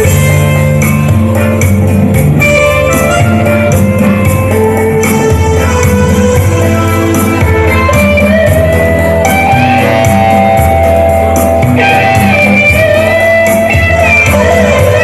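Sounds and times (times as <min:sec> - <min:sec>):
live band instrumental music: 0:00.0 - 0:15.0.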